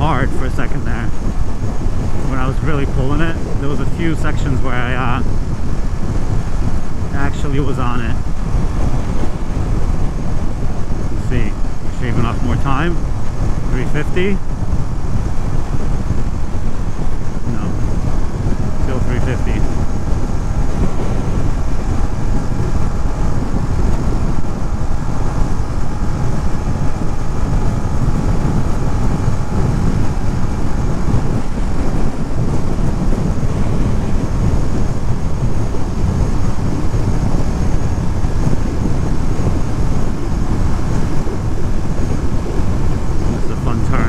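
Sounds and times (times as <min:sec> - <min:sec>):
wind rushing over microphone: 0:00.0 - 0:44.0
motorcycle engine running: 0:05.0 - 0:44.0.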